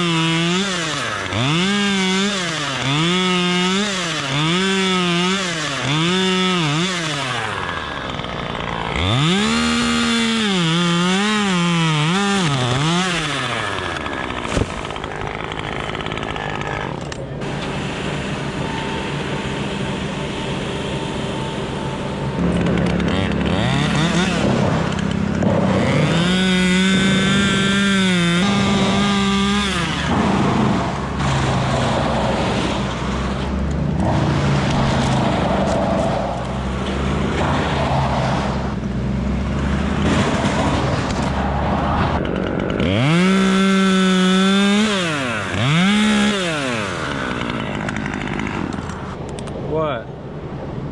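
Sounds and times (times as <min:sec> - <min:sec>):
chainsaw cutting wood: 0:00.0 - 0:49.4.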